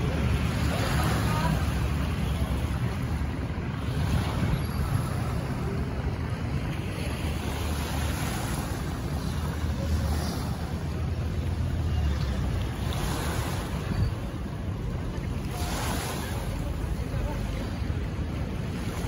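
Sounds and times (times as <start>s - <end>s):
calm sea water washing: 0.0s - 19.0s
wind rumbling on microphone: 0.0s - 19.0s.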